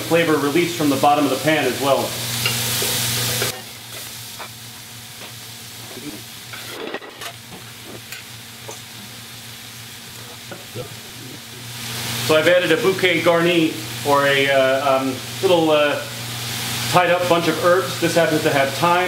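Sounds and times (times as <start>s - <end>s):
mushrooms sizzling in a pot: 0.0s - 19.0s.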